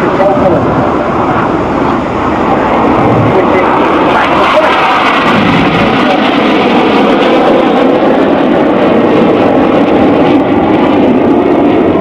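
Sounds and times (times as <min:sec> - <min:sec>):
jet aircraft noise: 0:00.0 - 0:12.0.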